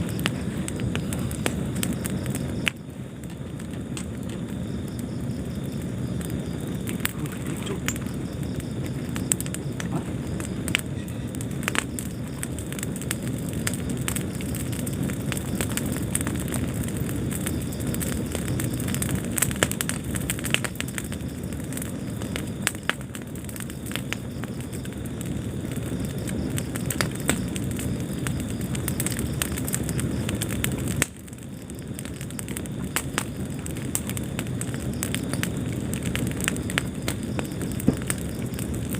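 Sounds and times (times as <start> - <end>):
fire crackling: 0.0 - 38.9
fire rumbling in fireplace: 0.0 - 38.9.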